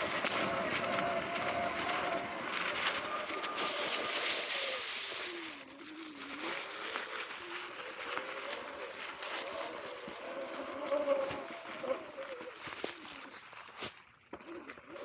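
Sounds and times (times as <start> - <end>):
wind and tyre noise: 0.0 - 15.0.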